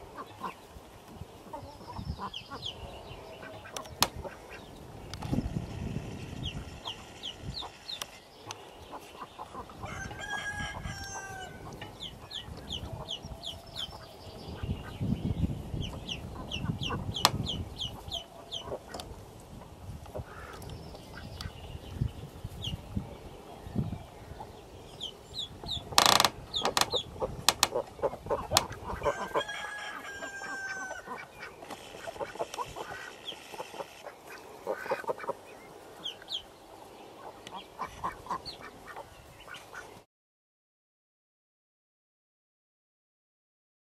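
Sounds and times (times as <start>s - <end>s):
ducklings peeping: 0.0s - 40.0s.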